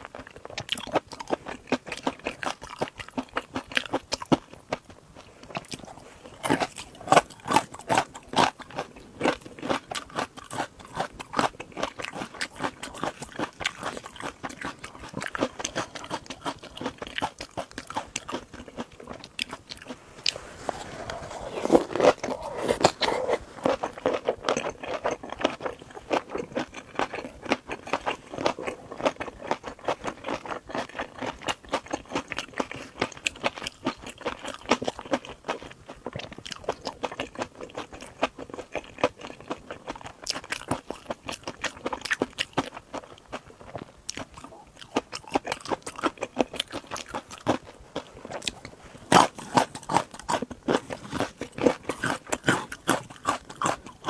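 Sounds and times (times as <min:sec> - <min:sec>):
crunchy food chewing: 0:00.0 - 0:54.0.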